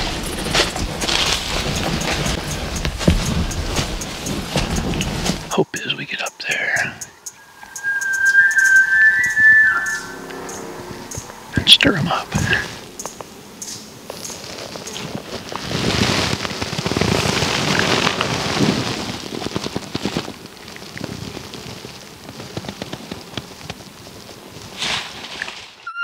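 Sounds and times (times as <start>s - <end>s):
leaves and twigs crackling: 0.0s - 11.5s, 12.1s - 25.9s.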